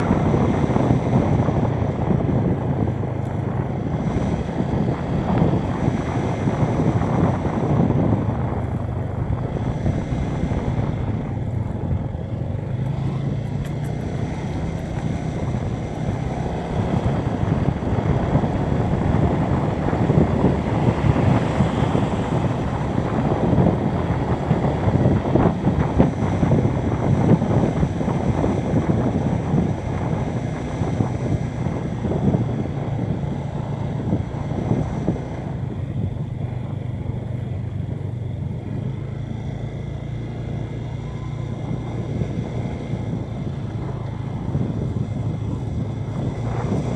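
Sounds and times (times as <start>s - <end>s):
motorcycle engine running: 0.0s - 46.9s
wind buffeting microphone: 0.0s - 46.9s.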